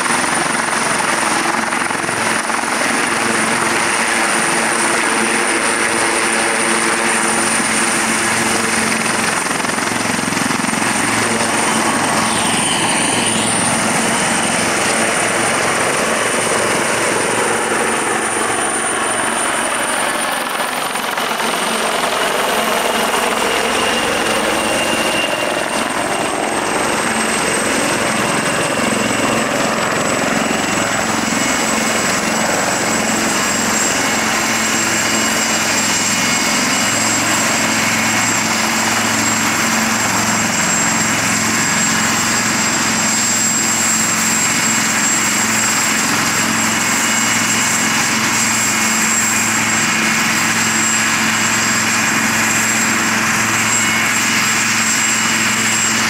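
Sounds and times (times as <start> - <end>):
helicopter engine whine: 0.0 - 56.0
helicopter rotor roar: 0.0 - 56.0.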